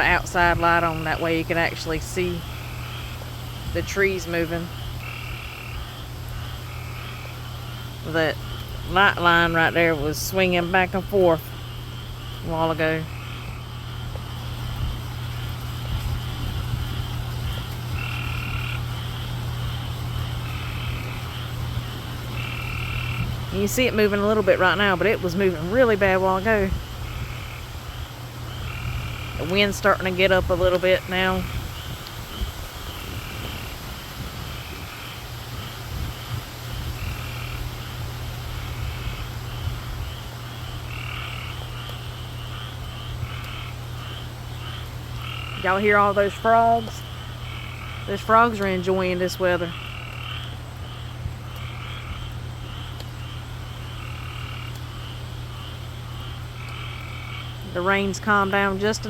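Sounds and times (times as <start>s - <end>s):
frogs calling: 0.0s - 59.0s
steady low rumble: 0.0s - 59.0s.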